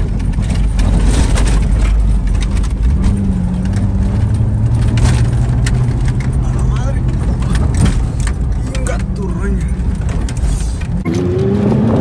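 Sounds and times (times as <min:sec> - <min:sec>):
rattles and knocks from bumps: 0:00.0 - 0:11.0
truck rumbling on dirt road: 0:00.0 - 0:12.0.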